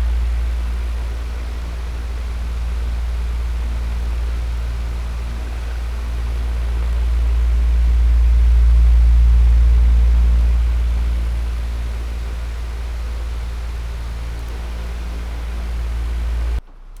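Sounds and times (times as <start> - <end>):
electric fan running: 0.0 - 16.6.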